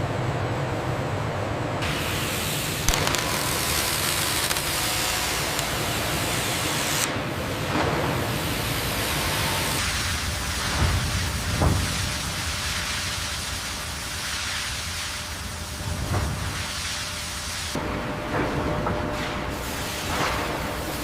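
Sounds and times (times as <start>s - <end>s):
industrial machinery running: 0.0s - 21.0s.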